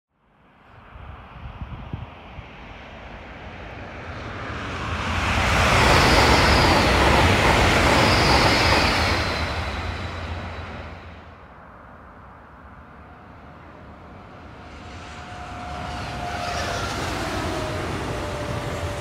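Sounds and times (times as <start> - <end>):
high-speed train rushing past: 0.4 - 19.0.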